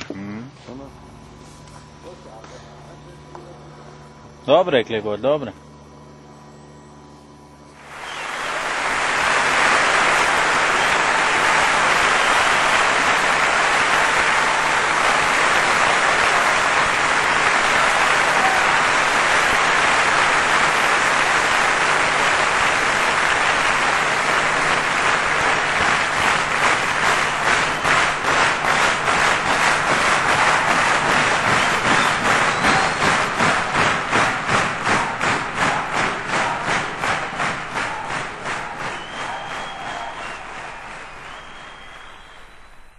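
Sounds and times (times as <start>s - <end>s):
rhythmic clapping: 7.8s - 42.8s
audience applause: 7.8s - 42.9s.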